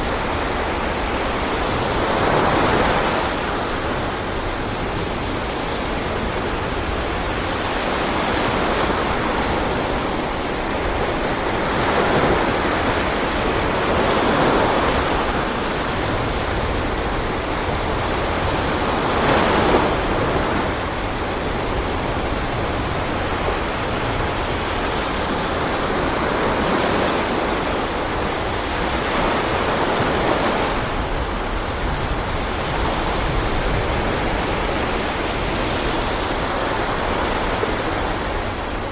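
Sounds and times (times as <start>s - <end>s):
sea water rushing against boat: 0.0s - 38.9s
wind: 0.0s - 38.9s.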